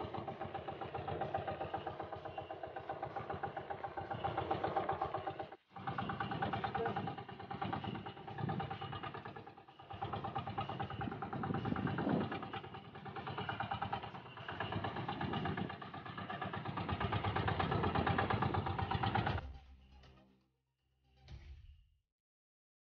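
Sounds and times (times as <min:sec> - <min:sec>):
small boat engine running: 0:00.0 - 0:20.1.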